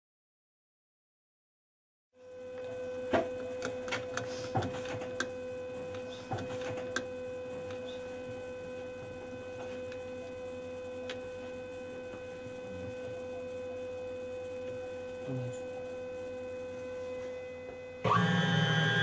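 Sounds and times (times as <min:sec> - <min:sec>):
steady machine hum: 0:02.2 - 0:19.0.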